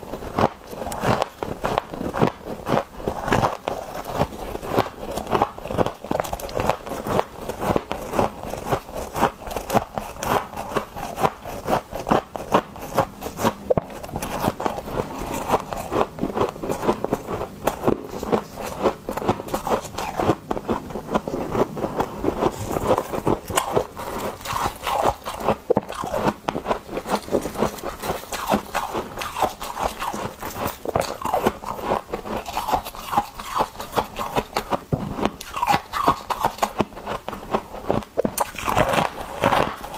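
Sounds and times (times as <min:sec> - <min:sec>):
chewing ice crunching: 0:00.2 - 0:39.9.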